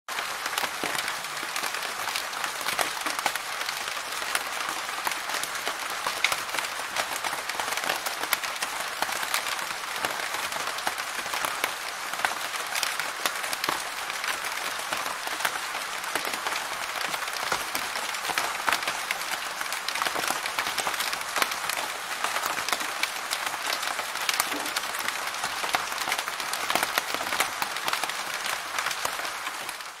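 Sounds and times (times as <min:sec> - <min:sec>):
steady rain patter: 0:00.1 - 0:30.0.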